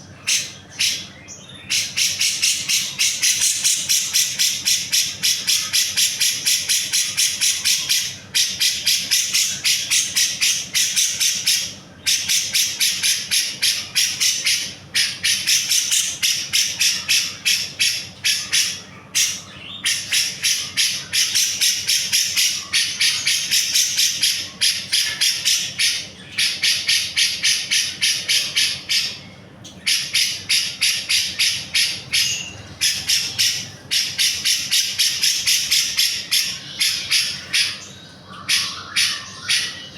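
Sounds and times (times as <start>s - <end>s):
bulbul harsh rasping chatter: 0.0s - 39.9s.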